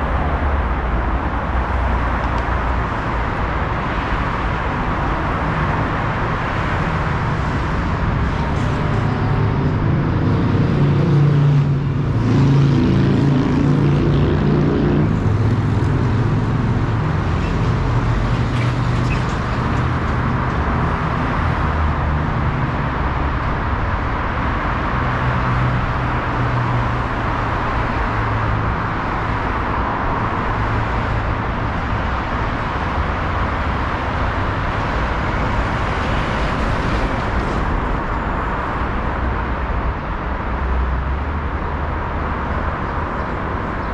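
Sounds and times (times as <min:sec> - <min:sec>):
heavy vehicle engine: 0:00.0 - 0:43.9
steady road traffic: 0:00.0 - 0:43.9.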